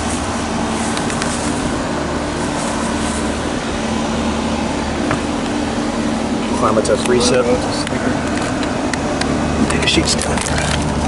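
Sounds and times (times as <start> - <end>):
air conditioner unit humming: 0.0 - 11.0
fan rushing: 0.0 - 11.0.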